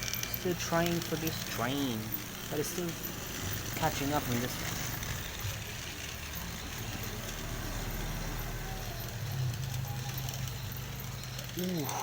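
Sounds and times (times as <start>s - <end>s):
toy trains motor hum: 0.0s - 12.0s.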